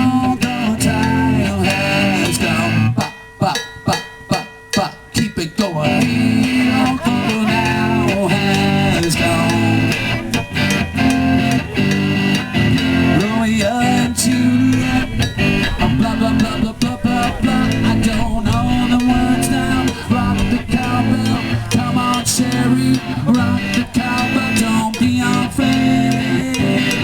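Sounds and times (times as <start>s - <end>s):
guitar playing: 0.0s - 3.0s, 5.8s - 27.0s.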